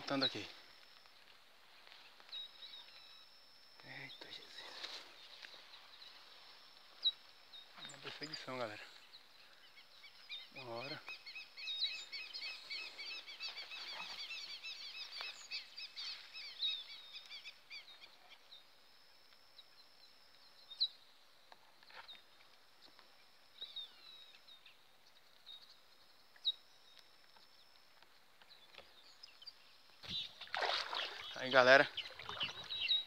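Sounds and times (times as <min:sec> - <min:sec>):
birds chirping: 0:00.0 - 0:18.7, 0:21.8 - 0:33.0.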